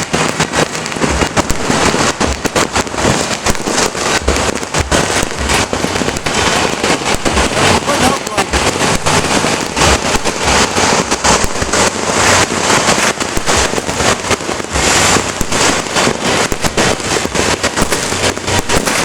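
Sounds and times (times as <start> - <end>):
firecrackers and fireworks bangs: 0.0 - 19.0.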